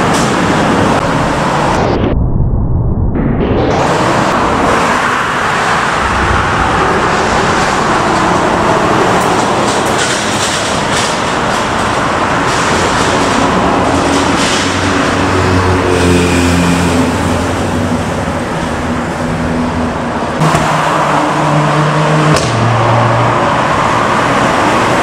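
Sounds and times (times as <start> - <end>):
expressway traffic noise: 0.0 - 2.0, 3.6 - 25.0
passing car engine: 3.7 - 25.0.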